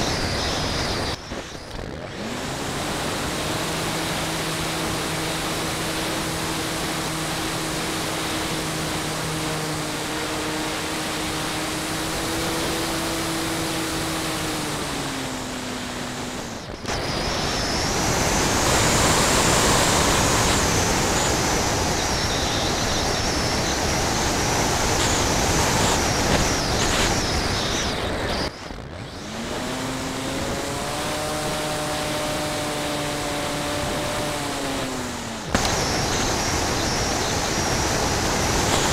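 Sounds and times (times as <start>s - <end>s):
model airplane propeller drone: 0.0s - 38.9s.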